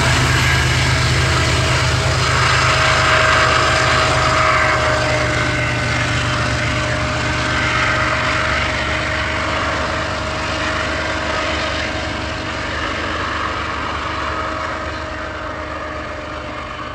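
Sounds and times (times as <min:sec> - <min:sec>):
diesel locomotive engine droning: 0:00.0 - 0:16.9.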